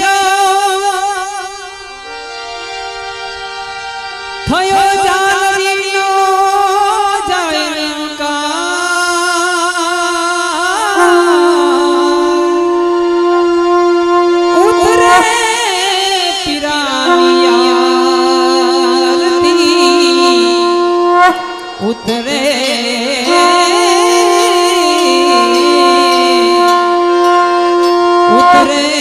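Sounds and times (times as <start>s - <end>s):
harmonium playing: 0.0s - 29.0s.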